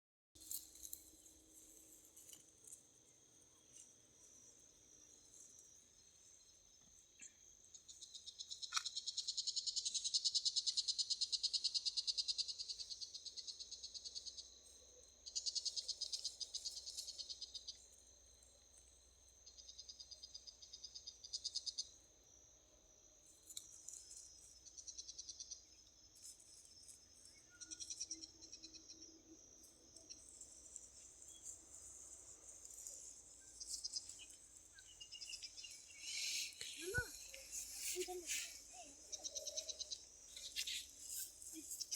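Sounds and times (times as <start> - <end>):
insects trilling: 0.4 - 41.9.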